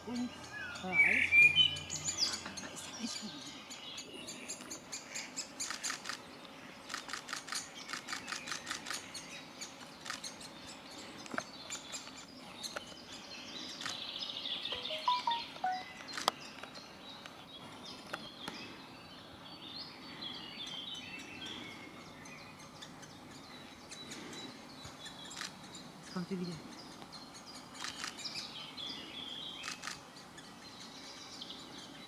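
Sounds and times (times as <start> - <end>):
nestlings chattering calls: 0.0 - 17.3, 20.6 - 32.0.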